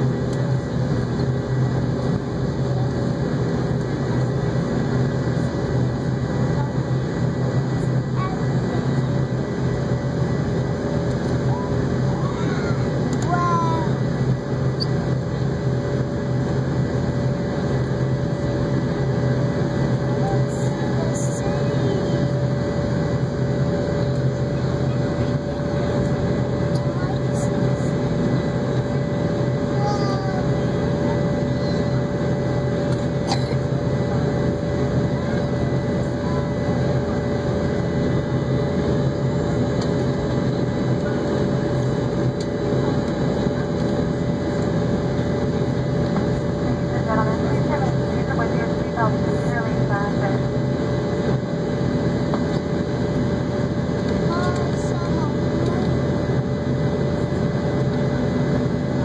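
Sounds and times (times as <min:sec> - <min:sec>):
jet engine and rushing airflow: 0:00.0 - 0:59.0.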